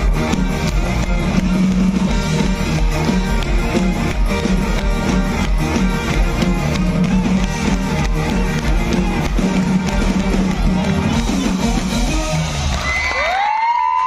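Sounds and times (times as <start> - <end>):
steady drum beat: 0.0 - 12.9
folk-rock band playing: 0.0 - 13.1.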